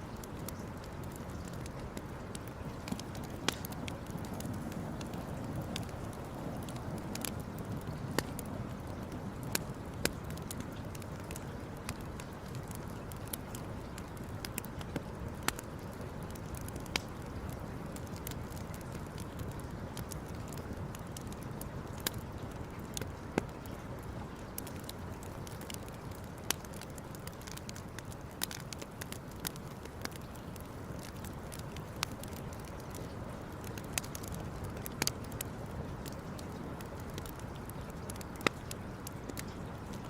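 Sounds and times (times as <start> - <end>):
campfire crackling: 0.0 - 40.0
sharp pops of fire: 0.3 - 21.4, 24.6 - 40.0.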